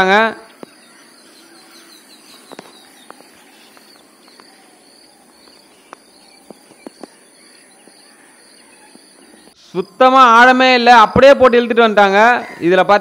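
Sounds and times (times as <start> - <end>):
faint high chirping: 0.5 - 11.8.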